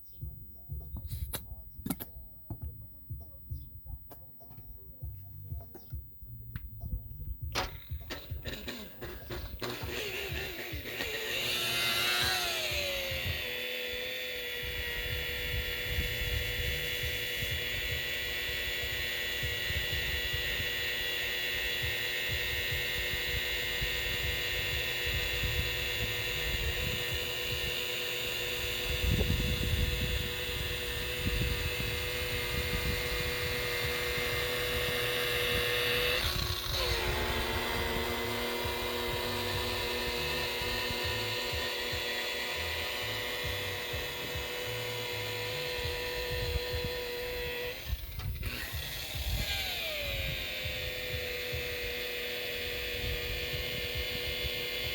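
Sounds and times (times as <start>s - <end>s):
electric buffer motor whine: 0.9s - 6.6s, 7.5s - 54.9s.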